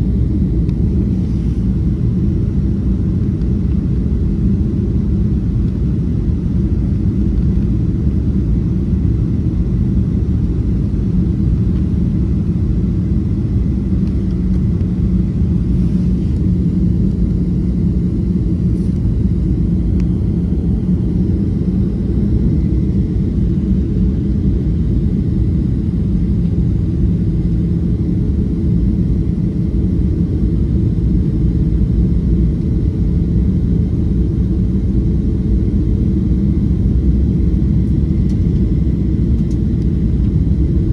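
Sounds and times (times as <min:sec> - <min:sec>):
airflow over airframe: 0:00.0 - 0:40.9
faint steady hum: 0:00.0 - 0:40.9
jet engines rumbling: 0:00.0 - 0:40.9.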